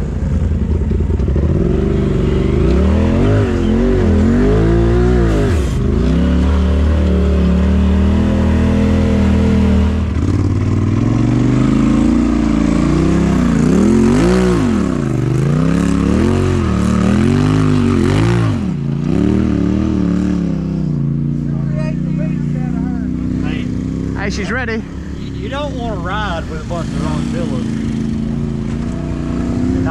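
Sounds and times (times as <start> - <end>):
utility vehicle engine revving: 0.0 - 29.9.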